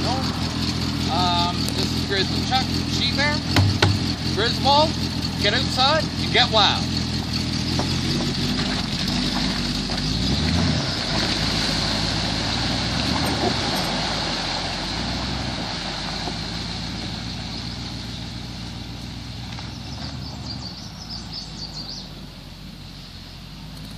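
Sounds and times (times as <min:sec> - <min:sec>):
car engine driving away: 0:00.0 - 0:23.9.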